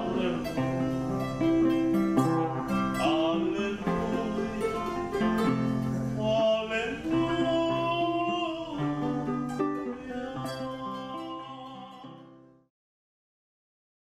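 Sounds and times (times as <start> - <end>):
acoustic guitar: 0.0 - 12.7
person singing: 0.0 - 12.7.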